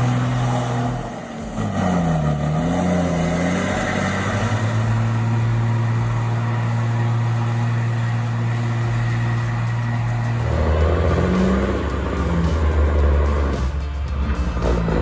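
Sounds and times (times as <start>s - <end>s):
vehicle engine running under load: 0.0s - 15.0s.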